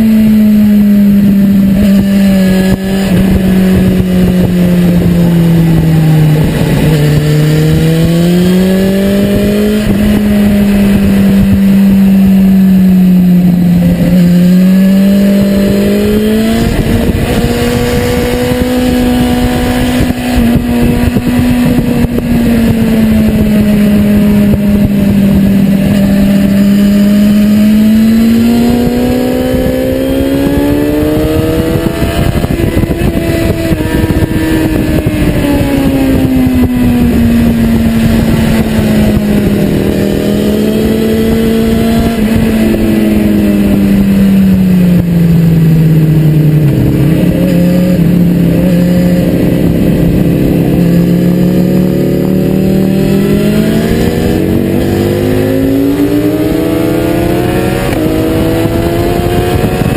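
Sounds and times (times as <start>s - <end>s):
motorcycle engine at high revs: 0.0s - 59.9s
wind rushing over microphone: 0.0s - 59.9s.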